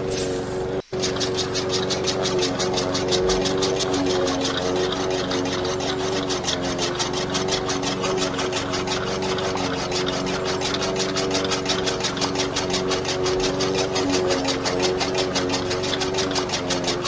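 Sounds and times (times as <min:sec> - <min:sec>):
small motor running: 0:00.0 - 0:17.0
fast even ticking: 0:00.8 - 0:17.0.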